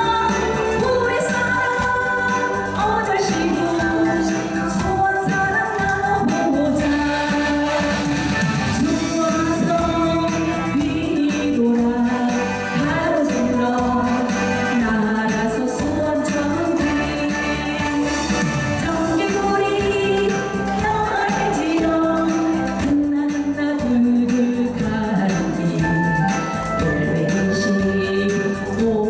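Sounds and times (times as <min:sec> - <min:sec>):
instrumental accompaniment: 0:00.0 - 0:29.0
woman singing: 0:00.0 - 0:29.0.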